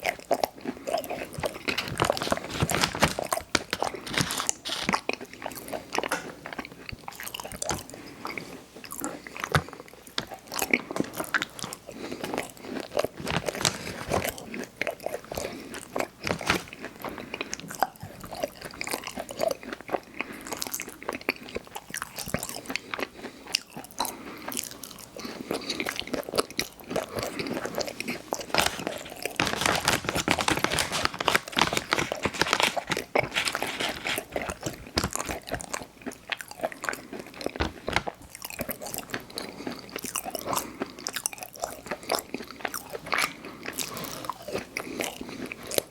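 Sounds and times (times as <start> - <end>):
chewing cookies: 0.0 - 45.9.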